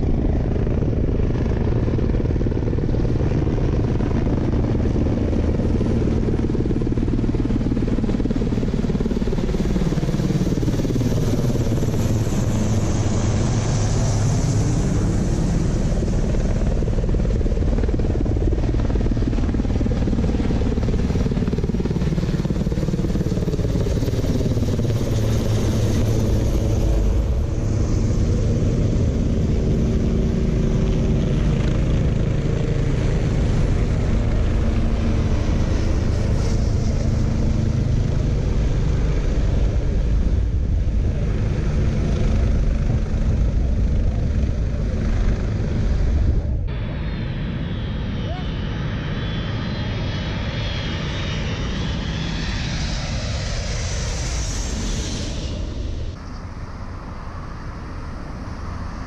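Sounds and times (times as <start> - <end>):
helicopters flying past: 0.0 - 59.0.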